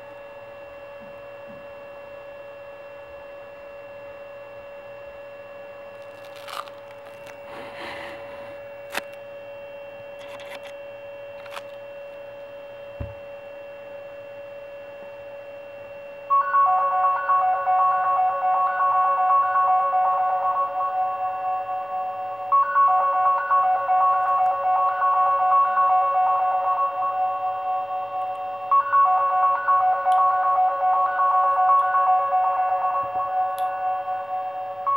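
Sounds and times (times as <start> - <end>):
electrical whine: 0.0 - 34.9.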